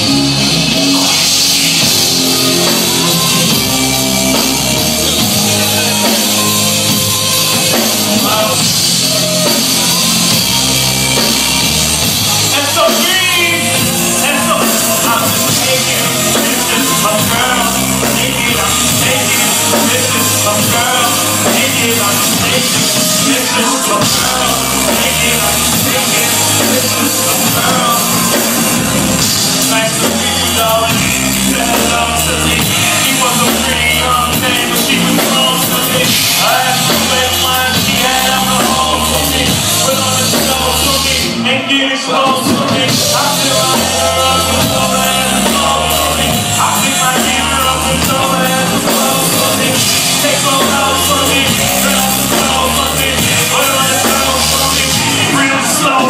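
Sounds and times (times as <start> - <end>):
rock band music with vocals: 0.0 - 56.0.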